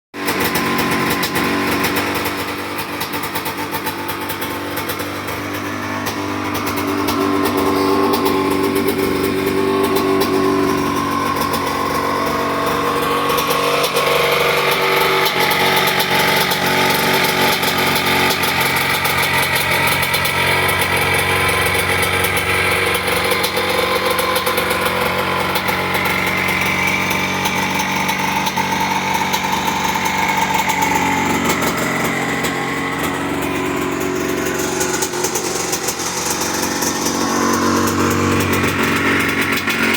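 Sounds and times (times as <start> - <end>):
two-stroke engine revving: 0.1 - 39.9.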